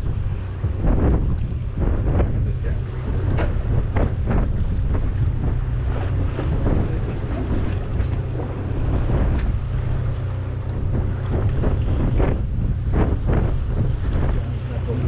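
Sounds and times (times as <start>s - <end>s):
water: 0.0s - 15.0s
wind buffeting microphone: 0.0s - 15.0s.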